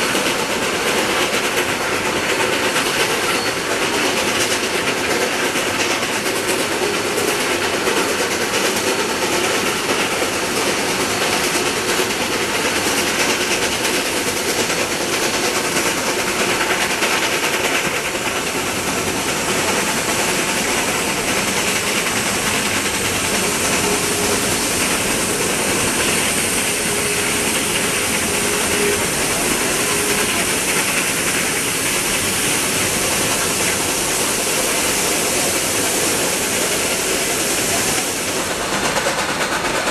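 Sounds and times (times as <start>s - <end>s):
hissing steam: 0.0s - 39.9s
steam locomotive exhaust: 0.0s - 39.9s
train wheel noise: 0.0s - 39.9s.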